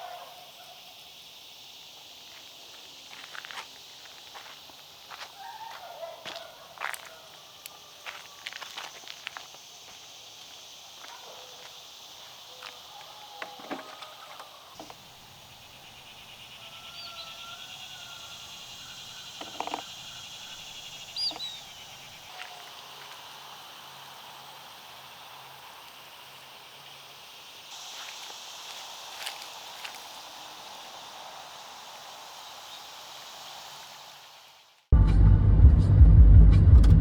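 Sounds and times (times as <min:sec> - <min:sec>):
fast pulsing insect trill: 0:00.0 - 0:05.5, 0:06.2 - 0:34.7
insects trilling: 0:00.0 - 0:34.9.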